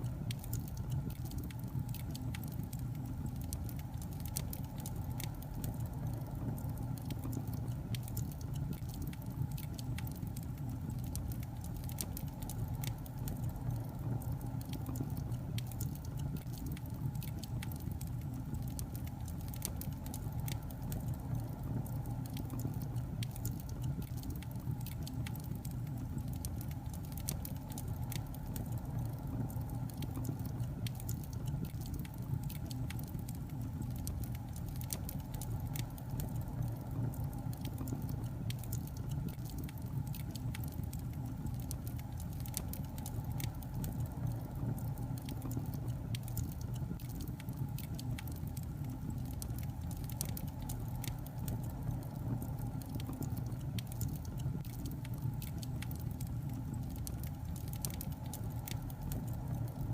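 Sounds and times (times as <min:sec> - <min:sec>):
logs crackling in fireplace: 0:00.0 - 0:59.9
low rumble of fire: 0:00.0 - 0:59.9.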